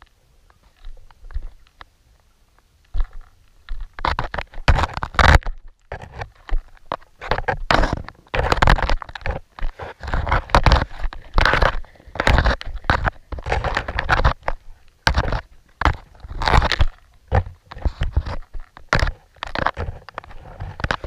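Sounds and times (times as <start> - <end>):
underwater scraping and crunching: 0.0 - 21.0.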